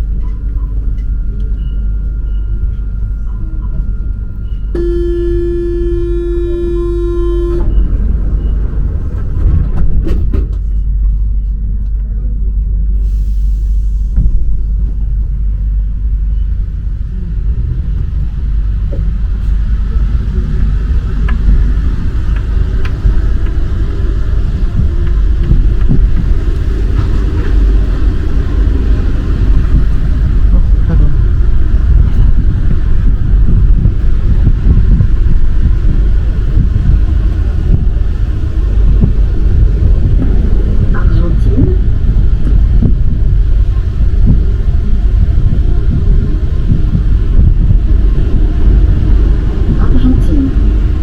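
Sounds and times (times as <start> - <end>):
metro train rumble: 0.0 - 51.0.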